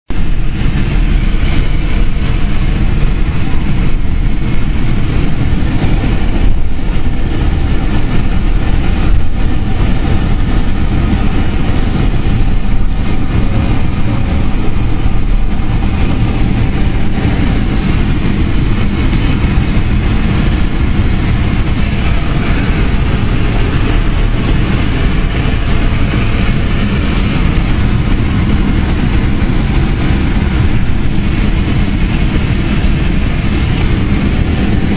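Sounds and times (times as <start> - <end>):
jet engine cabin rumble: 0.1 - 34.9.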